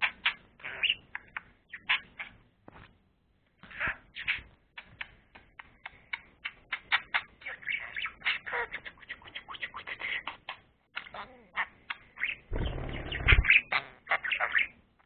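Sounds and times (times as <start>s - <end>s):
budgerigar chirping and clicking: 0.0s - 2.4s, 3.7s - 14.8s.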